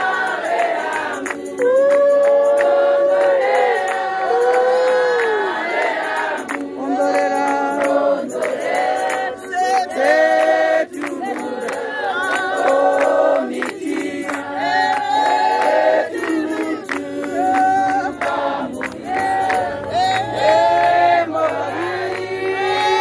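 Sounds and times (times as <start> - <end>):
hand claps: 0.0 - 23.0
women singing a hymn: 0.0 - 23.0.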